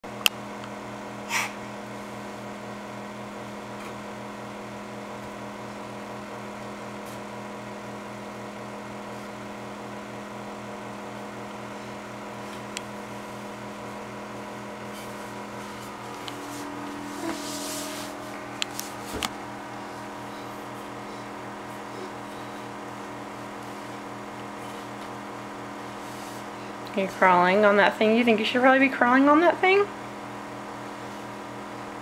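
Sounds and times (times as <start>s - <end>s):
pulsing mechanical hum: 0.0s - 32.0s.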